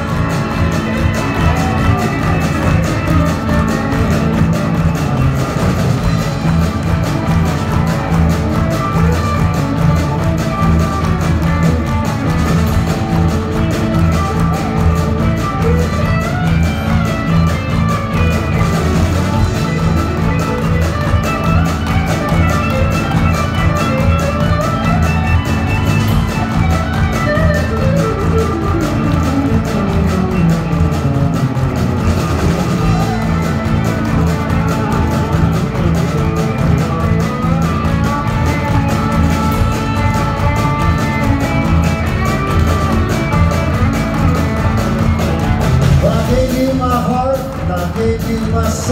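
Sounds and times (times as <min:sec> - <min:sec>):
live country-rock band playing: 0:00.0 - 0:48.9.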